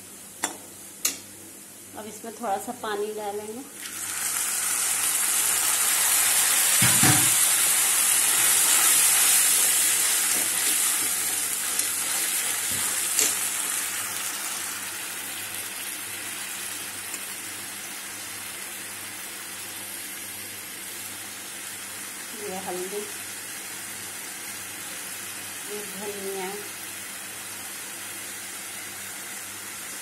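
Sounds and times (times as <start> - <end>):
water sizzling in hot oil: 3.7 - 30.0.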